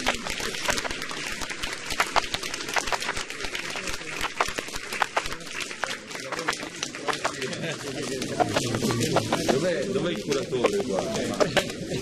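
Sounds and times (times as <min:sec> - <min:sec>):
people applauding: 0:00.0 - 0:12.0.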